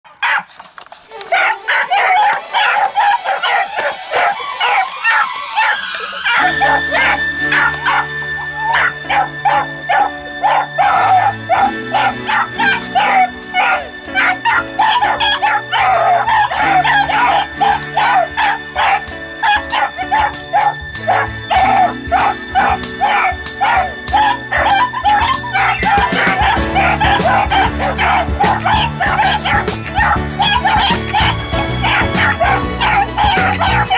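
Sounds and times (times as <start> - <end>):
background music: 0.1 - 33.9
puppy yipping and barking: 0.2 - 0.5, 1.3 - 33.9.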